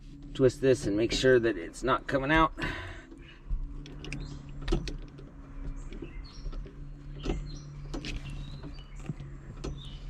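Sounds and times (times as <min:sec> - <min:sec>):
birds chirping: 0:00.0 - 0:10.0
sharp clicks and knocks: 0:00.0 - 0:10.0
steady low hum: 0:00.0 - 0:10.0.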